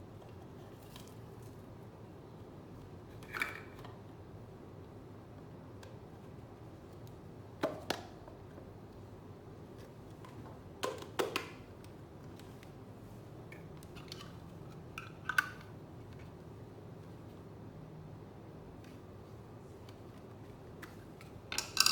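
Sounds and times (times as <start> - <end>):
faint room noise: 0.0 - 21.9.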